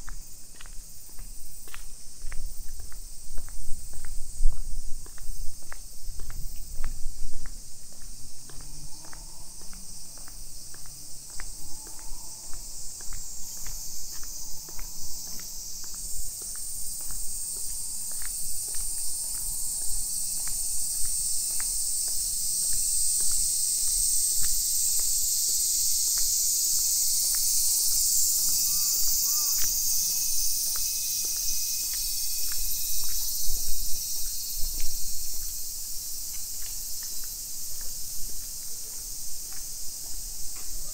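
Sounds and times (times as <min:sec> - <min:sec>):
cicadas chorus: 0:00.0 - 0:40.9
footsteps on brick path: 0:00.0 - 0:40.9.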